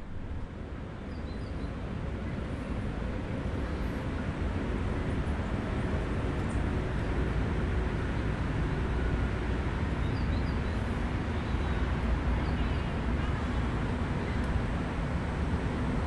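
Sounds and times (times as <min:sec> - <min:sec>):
distant city traffic rumble: 0:00.0 - 0:16.0.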